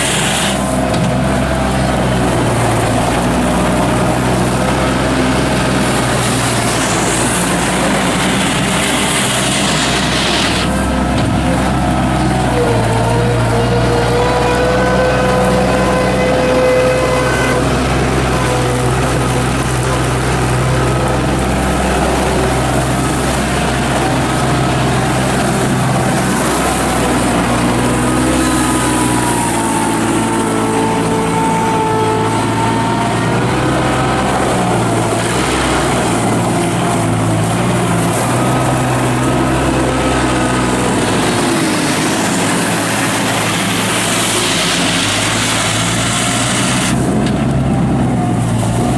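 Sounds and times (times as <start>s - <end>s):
diesel engine running: 0.0s - 48.9s
machine whine shifting pitch: 1.7s - 47.0s.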